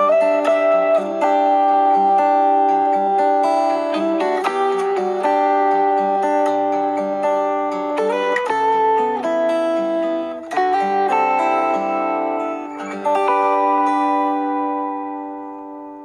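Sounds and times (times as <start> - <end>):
plucked-string ringtone melody: 0.0 - 15.8.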